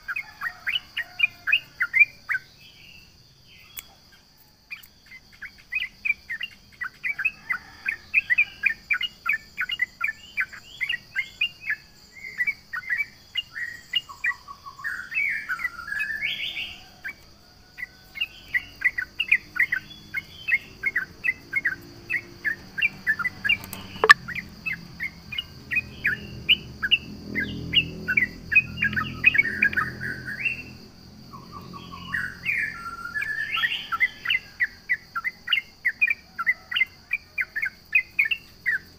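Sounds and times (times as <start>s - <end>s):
bird singing chattering song: 0.0s - 38.9s
high insect-like whine: 0.0s - 38.9s.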